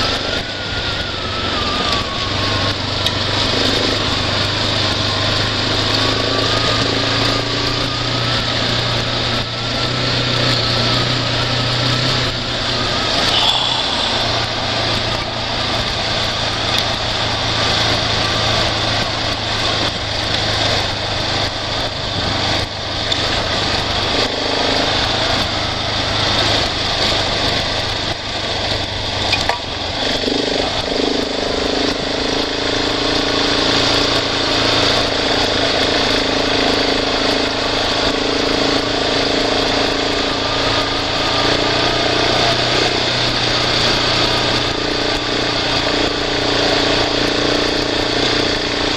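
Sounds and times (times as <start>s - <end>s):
higher steady engine note: 0.0s - 48.9s
road noise on dirt road: 0.0s - 48.9s
vehicle engine running: 0.0s - 48.9s.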